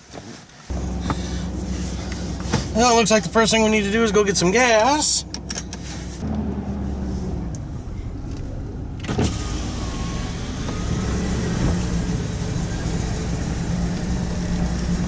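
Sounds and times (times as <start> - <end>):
pickup engine hum from inside cab: 0.4 - 15.0.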